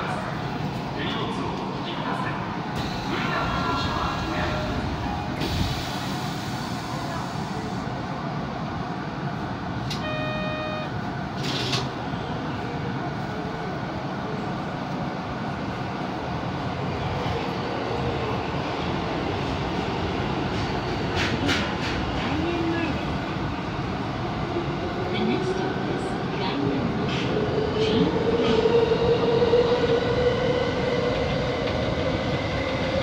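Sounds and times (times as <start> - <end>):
subway train humming: 0.0 - 33.0.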